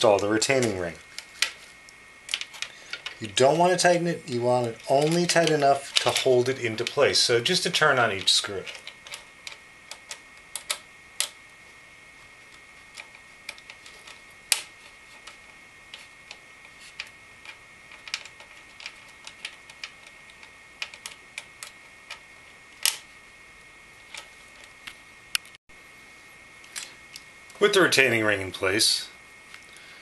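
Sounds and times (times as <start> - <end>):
faint high whine: 0.0 - 30.0.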